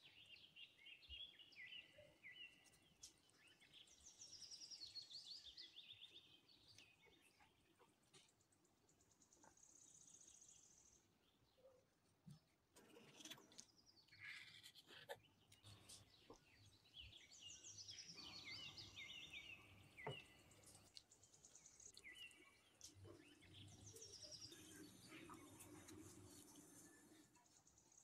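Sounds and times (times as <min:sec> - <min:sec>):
faint chirping: 0:00.0 - 0:28.0.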